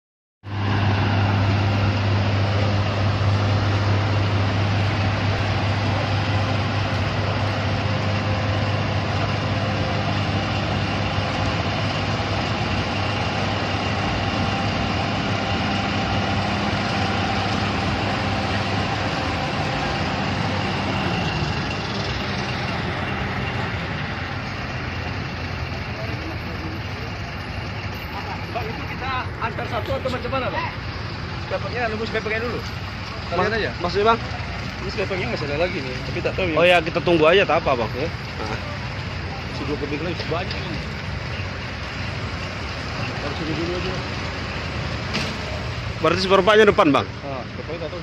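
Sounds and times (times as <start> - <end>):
large diesel engine humming: 0.4 - 48.0.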